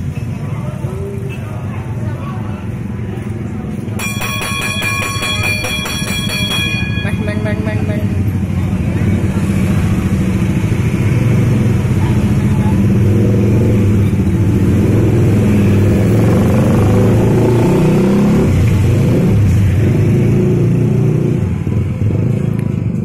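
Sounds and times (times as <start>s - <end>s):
scooters and motorcycles passing: 0.0s - 23.0s.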